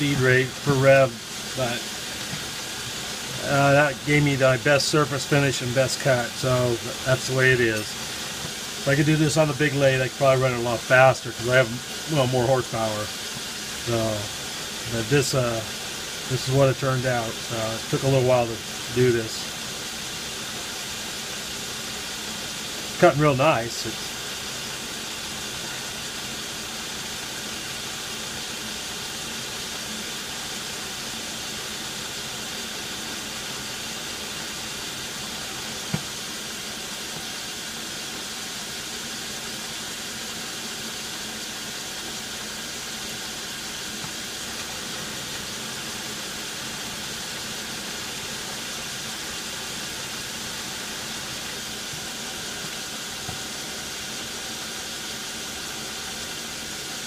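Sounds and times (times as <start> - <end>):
metal lathe humming: 0.0 - 57.0.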